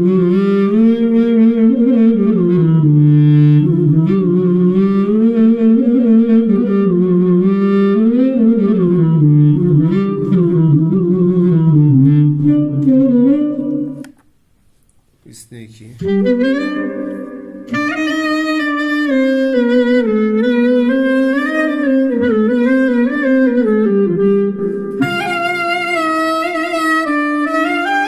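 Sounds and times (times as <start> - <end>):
synthesized clarinet-like melody: 0.0 - 14.1, 15.9 - 28.0.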